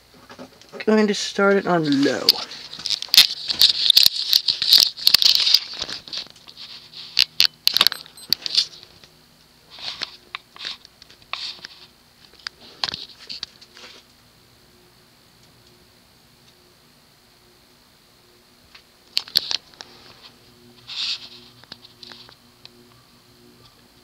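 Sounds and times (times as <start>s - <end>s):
ceiling fan motor hum: 0.0s - 24.0s.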